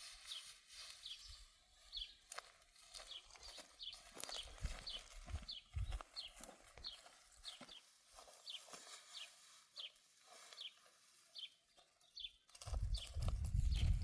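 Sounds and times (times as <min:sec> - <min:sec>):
small bird chirping: 0:00.2 - 0:14.0.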